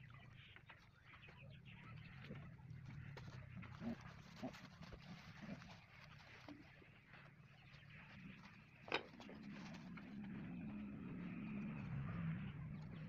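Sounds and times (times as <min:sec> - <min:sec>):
faint low engine hum: 0:00.0 - 0:13.0.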